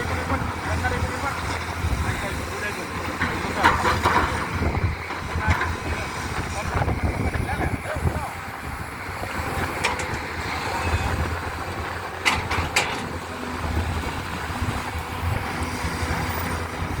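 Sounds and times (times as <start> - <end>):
heavy diesel machinery rumbling: 0.0 - 17.0.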